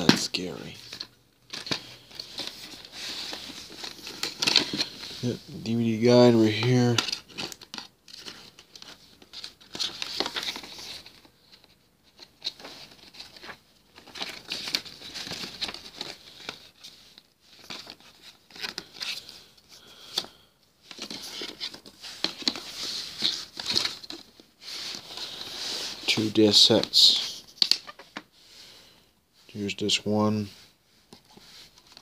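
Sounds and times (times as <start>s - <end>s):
paper and cardboard rustling: 0.0s - 28.3s, 29.6s - 32.0s.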